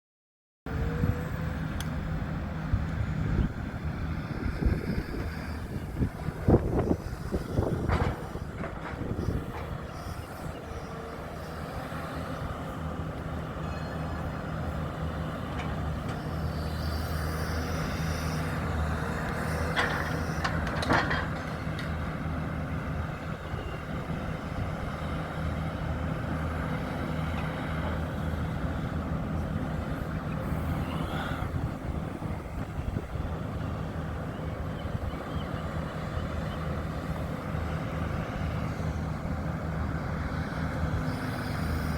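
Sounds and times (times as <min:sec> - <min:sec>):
heavy engine running: 0:00.7 - 0:41.9.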